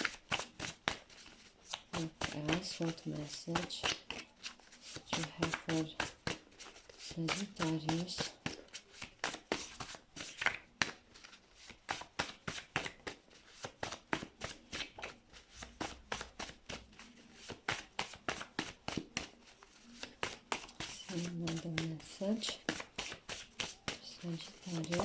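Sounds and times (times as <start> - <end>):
cards being shuffled: 0.0 - 25.0.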